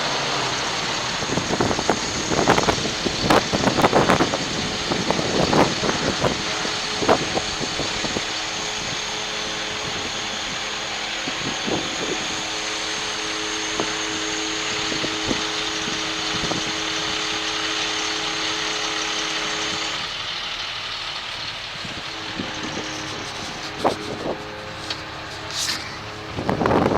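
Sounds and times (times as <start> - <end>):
diesel truck engine running: 0.0 - 26.9
steady whine: 0.0 - 26.9.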